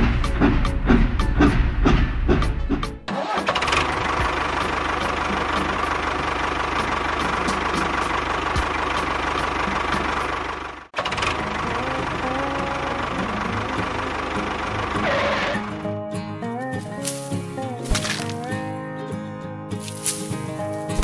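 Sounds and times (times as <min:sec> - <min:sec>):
tractor engine running: 0:00.0 - 0:18.8, 0:19.8 - 0:21.0.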